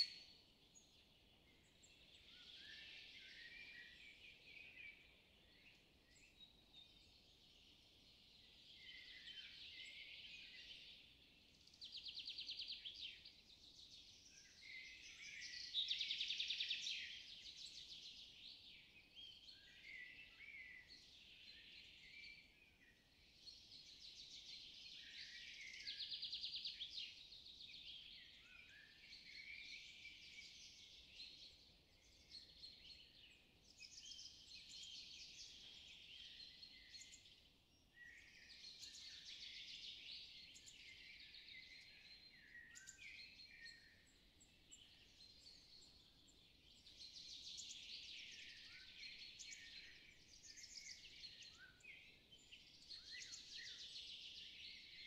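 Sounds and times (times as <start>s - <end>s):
faint songbirds chirping: 0.0s - 55.0s.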